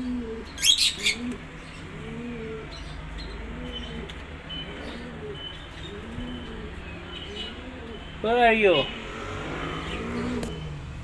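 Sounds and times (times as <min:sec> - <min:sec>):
pigeon cooing: 0:00.0 - 0:08.1, 0:09.0 - 0:10.6
small birds chirping: 0:00.0 - 0:11.0.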